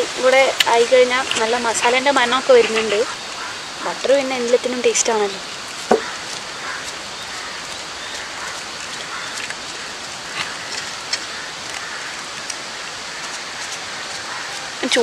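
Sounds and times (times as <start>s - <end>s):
butter sizzling on meat: 0.0s - 15.0s.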